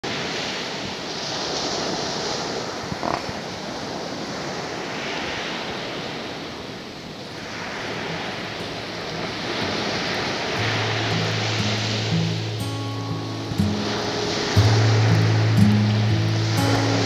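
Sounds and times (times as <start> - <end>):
waves washing up pebbly beach: 0.0 - 17.0.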